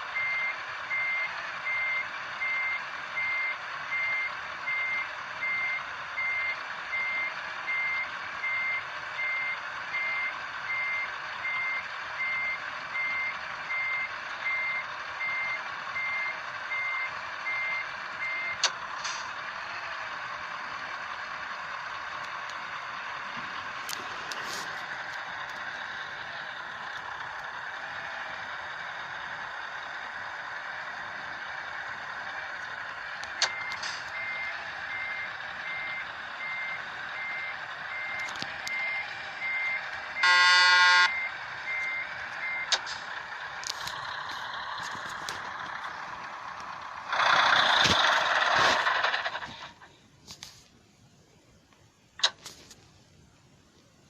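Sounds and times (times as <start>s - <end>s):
truck reversing alarm beeping: 0.0s - 19.4s, 20.5s - 47.6s.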